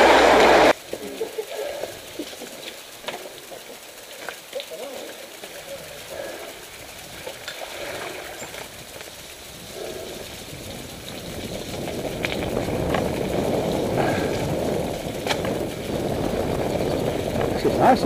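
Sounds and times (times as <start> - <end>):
bike tyres rolling on wet gravel: 0.0 - 18.0.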